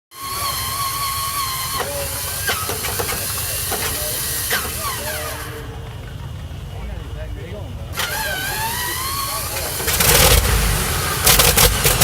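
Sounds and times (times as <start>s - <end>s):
aircraft engine starting: 0.2s - 12.0s
steady whine: 0.2s - 12.0s.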